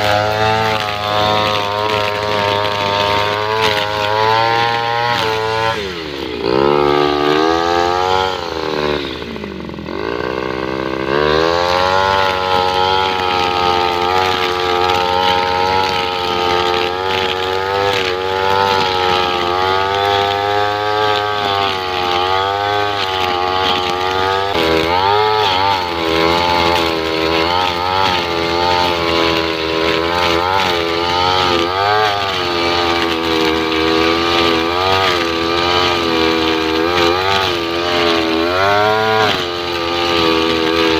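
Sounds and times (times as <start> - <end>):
brush cutter cutting grass: 0.0 - 40.9.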